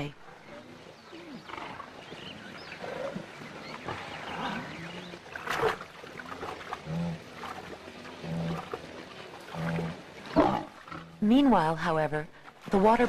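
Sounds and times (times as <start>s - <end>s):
wild animals growling and snarling: 0.3s - 11.2s.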